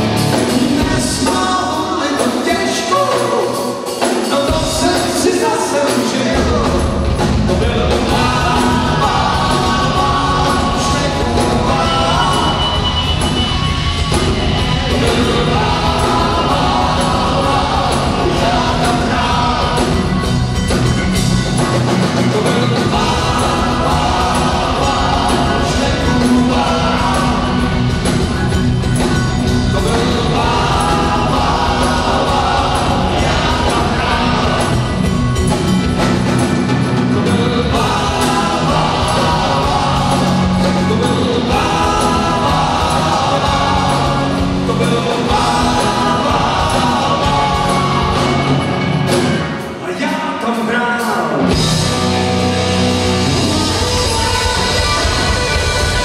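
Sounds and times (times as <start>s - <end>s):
live rock band with vocals: 0.0s - 56.0s.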